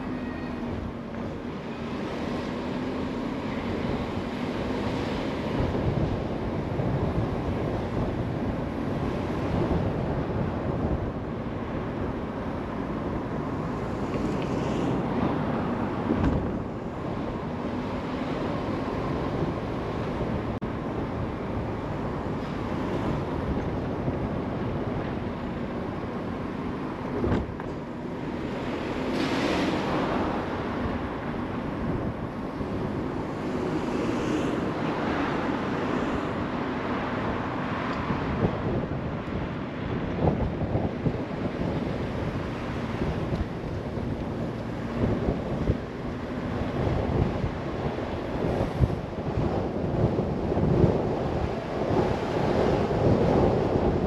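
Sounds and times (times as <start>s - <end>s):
car tyre and wind noise: 0.0s - 54.0s.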